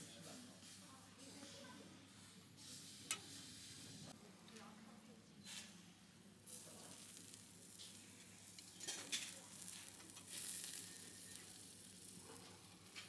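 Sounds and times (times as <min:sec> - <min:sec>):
food sizzling over charcoal: 0:00.1 - 0:04.2, 0:05.4 - 0:13.0.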